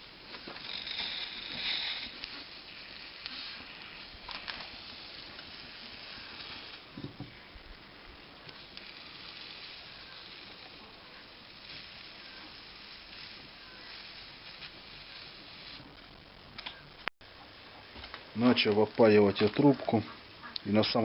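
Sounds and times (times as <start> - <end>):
soldering iron sizzling on steel: 0.0 - 17.1.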